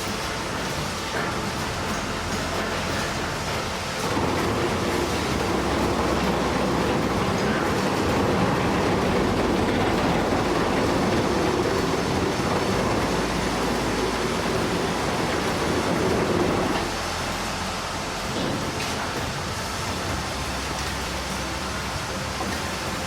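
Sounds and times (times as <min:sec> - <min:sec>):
heavy vehicle rumble: 0:00.0 - 0:23.0.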